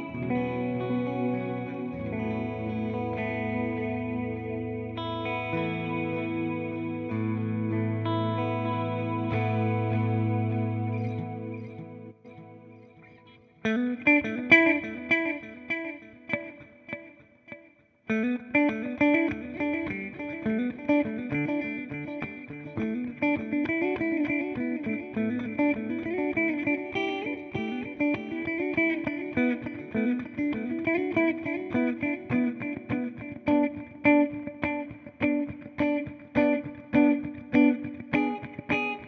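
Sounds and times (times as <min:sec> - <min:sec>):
electric guitar with delay: 0:00.0 - 0:39.0.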